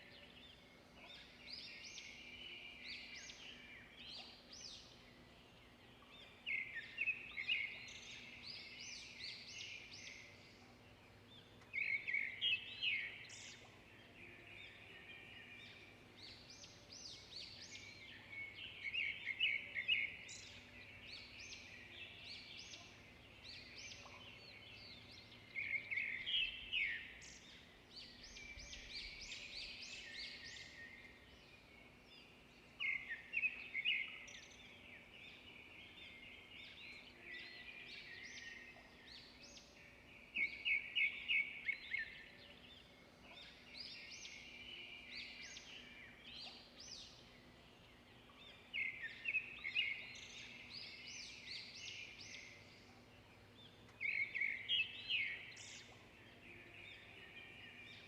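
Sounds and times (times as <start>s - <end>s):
birds twittering: 0.0s - 58.0s
songbirds chirping phrases: 0.0s - 58.0s.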